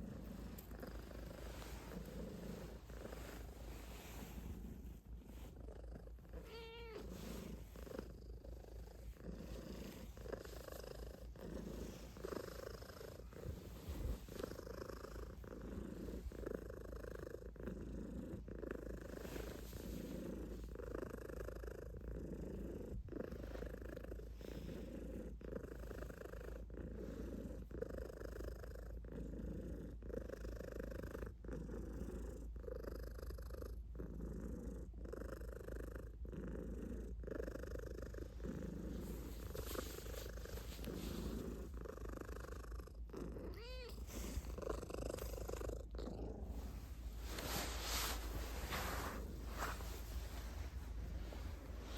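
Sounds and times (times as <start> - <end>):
cat purring: 0.0 - 51.9.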